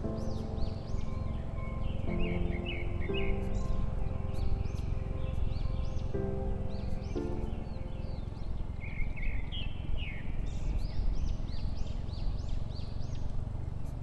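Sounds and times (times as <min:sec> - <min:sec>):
birds chirping: 0:00.0 - 0:14.0
low rumble: 0:00.0 - 0:14.0.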